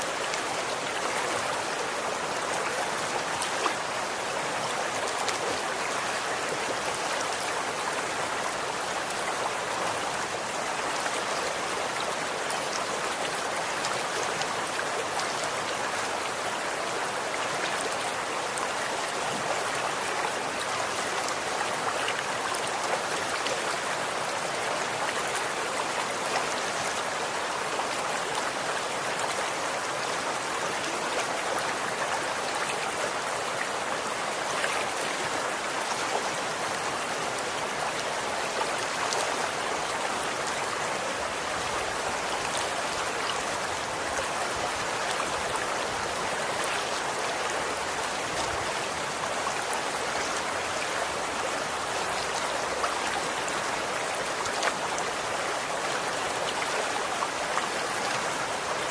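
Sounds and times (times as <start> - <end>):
stream flowing and splashing: 0.0 - 58.9.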